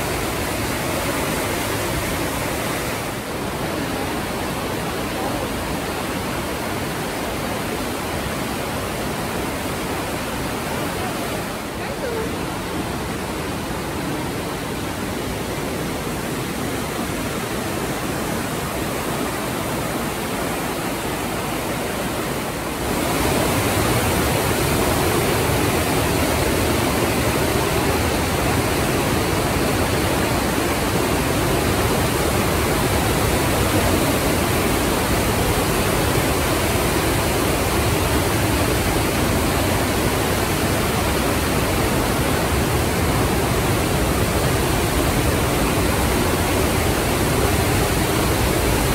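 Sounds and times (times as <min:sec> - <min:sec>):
mountain torrent rushing: 0:00.0 - 0:48.9.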